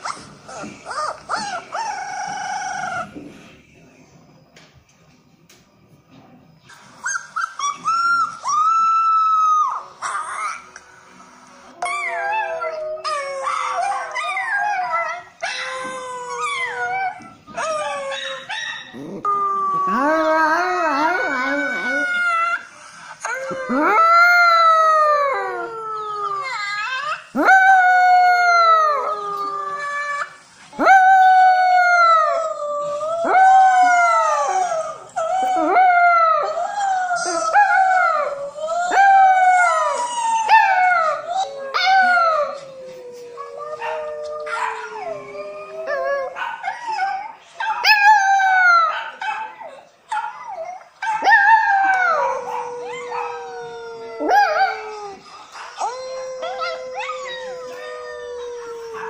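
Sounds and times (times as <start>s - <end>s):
puppy howling: 0.0s - 3.2s, 11.8s - 59.0s.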